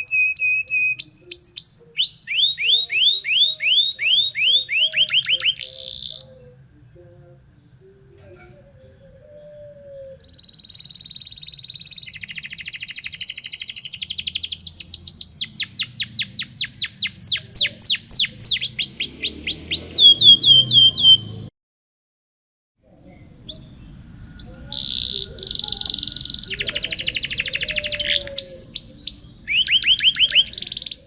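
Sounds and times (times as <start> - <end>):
canary singing: 0.0 - 21.5, 22.8 - 31.0.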